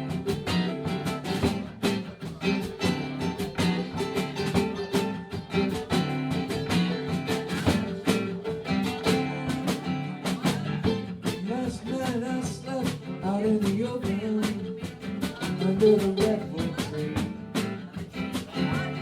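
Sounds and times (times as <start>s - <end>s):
band playing instrumental: 0.0s - 19.0s
steady drum beat: 0.0s - 19.0s
strummed guitar: 0.0s - 19.0s.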